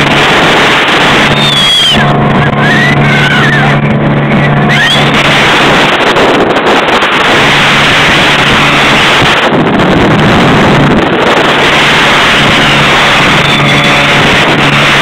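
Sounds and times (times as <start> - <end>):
boat engine hum: 0.0 - 15.0
water noise: 0.0 - 15.0
wind rushing over microphone: 0.0 - 15.0.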